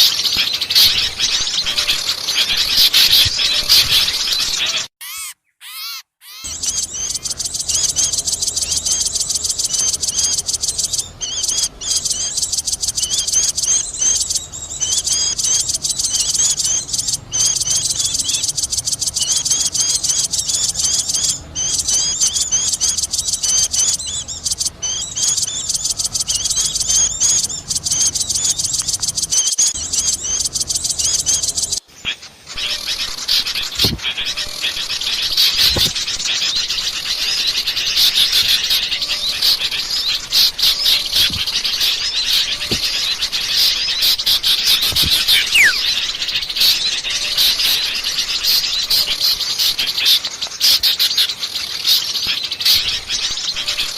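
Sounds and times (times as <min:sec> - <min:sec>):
songbirds chattering and chirping: 0:00.0 - 0:53.9.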